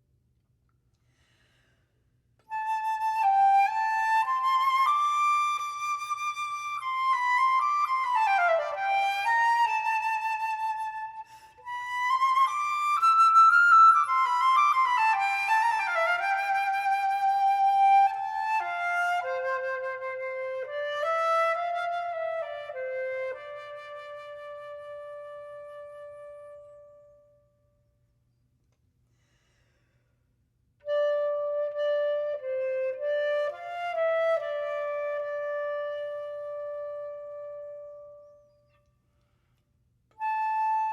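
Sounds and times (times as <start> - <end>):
slow flute melody: 2.4 - 27.6, 30.8 - 38.9, 40.1 - 40.9.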